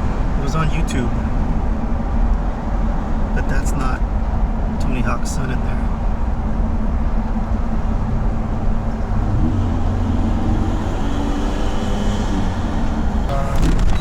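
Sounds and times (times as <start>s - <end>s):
road noise: 0.0s - 14.0s
van engine rumble: 0.0s - 14.0s.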